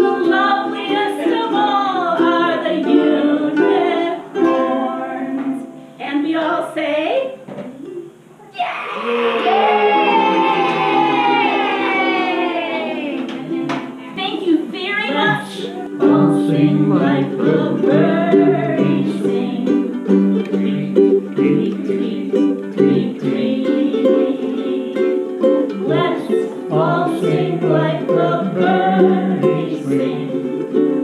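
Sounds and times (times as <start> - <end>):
ukulele strumming chords: 0.0 - 5.9, 10.0 - 31.0.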